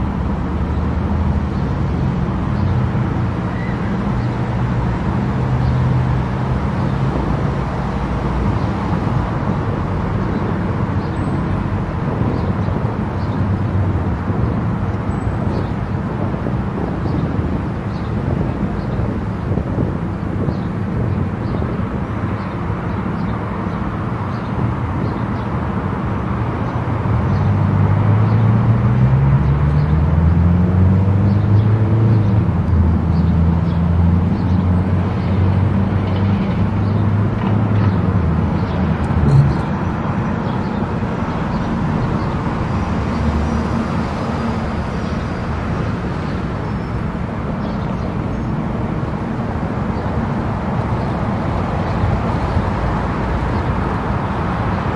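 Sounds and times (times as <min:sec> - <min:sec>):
car road and engine noise: 0:00.0 - 0:54.9.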